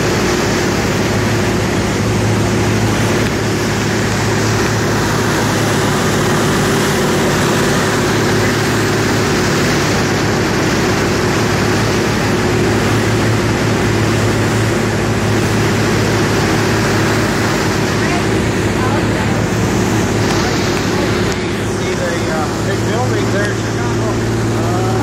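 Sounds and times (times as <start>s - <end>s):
motorboat engine running: 0.0s - 25.0s
rushing water noise: 0.0s - 25.0s.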